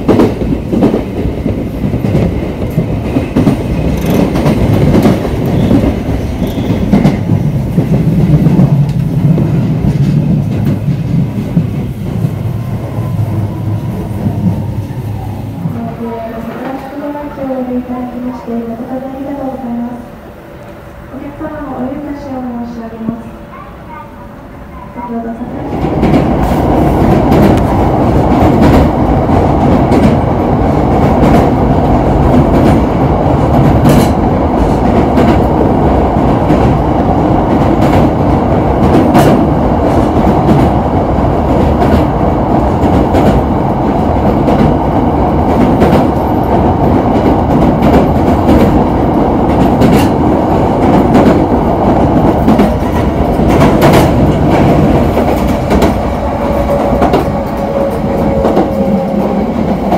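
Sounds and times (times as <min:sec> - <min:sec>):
train wheels rumbling on rails: 0:00.0 - 0:19.8, 0:24.7 - 0:59.9.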